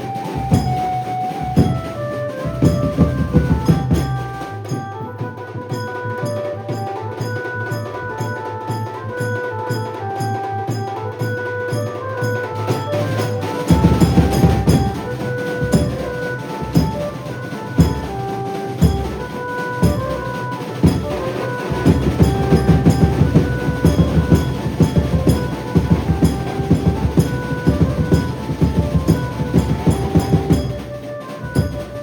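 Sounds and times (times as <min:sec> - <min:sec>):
heavy drumming: 0:00.0 - 0:32.0
banjo melody: 0:01.4 - 0:32.0.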